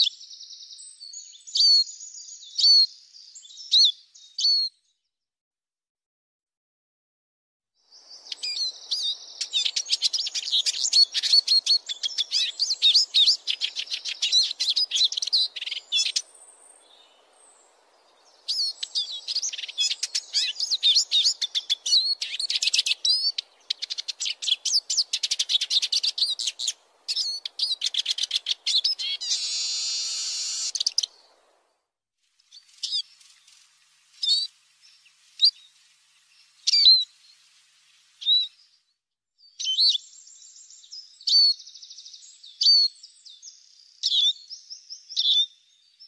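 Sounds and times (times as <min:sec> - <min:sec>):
bird twittering and trilling: 0:00.0 - 0:04.8, 0:07.9 - 0:31.4, 0:32.4 - 0:38.8, 0:39.4 - 0:46.0.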